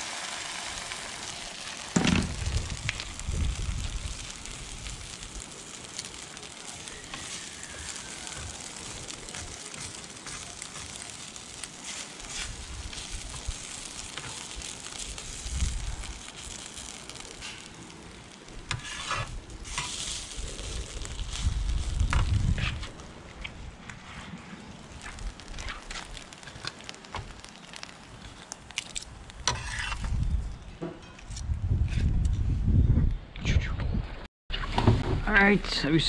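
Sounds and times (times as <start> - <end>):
egg sizzling in hot oil: 0.0 - 23.2, 24.6 - 30.3.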